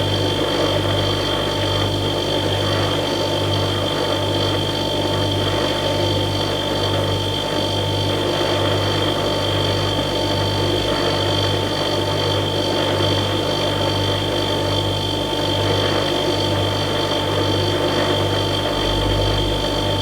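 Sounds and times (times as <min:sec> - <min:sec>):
refrigerator compressor humming: 0:00.0 - 0:20.0.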